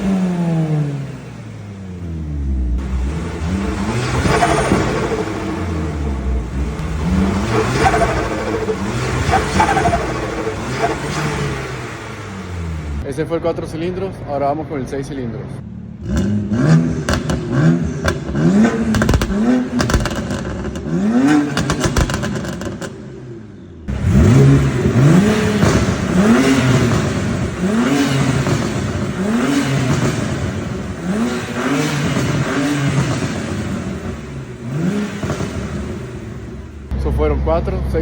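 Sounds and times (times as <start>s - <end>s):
car engine revving: 0.0s - 14.9s, 15.5s - 38.0s.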